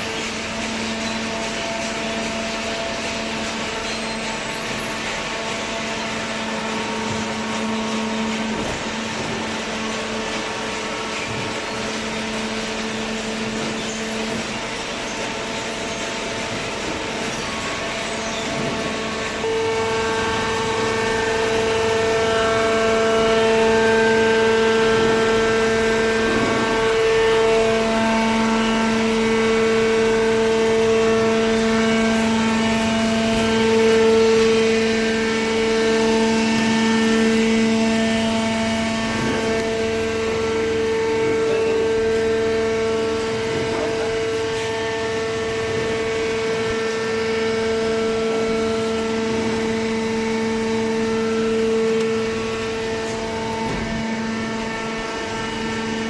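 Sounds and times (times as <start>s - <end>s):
baler motor humming: 0.0s - 56.0s.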